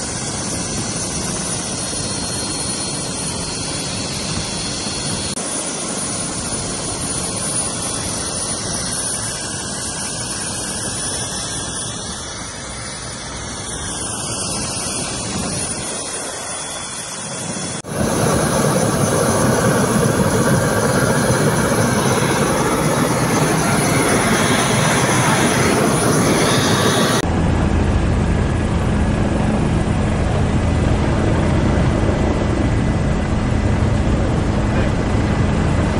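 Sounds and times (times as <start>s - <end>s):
helicopter engine and rotors: 0.0s - 35.9s
high turbine whine: 0.0s - 35.9s.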